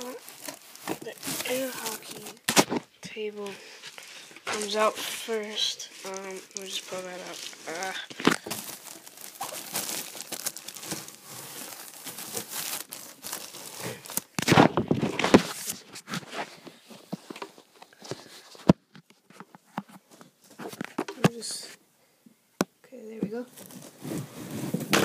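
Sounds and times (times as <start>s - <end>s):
plastic wrapping crinkling: 0.0s - 18.7s, 23.5s - 25.0s.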